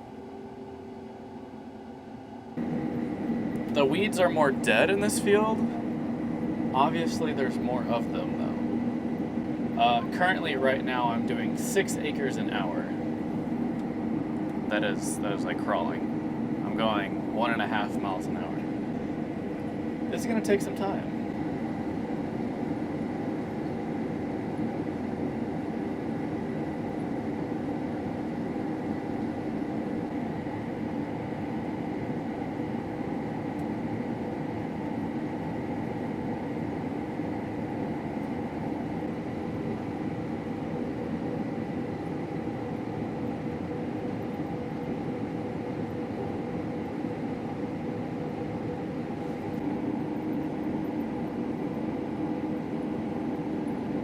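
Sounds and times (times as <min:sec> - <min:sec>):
combine harvester drone: 0:00.0 - 0:54.0
faint high whine: 0:00.0 - 0:54.0.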